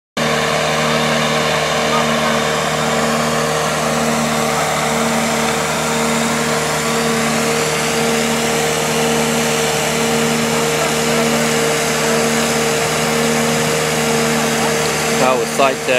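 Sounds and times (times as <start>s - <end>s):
bark blower engine running: 0.2s - 15.9s.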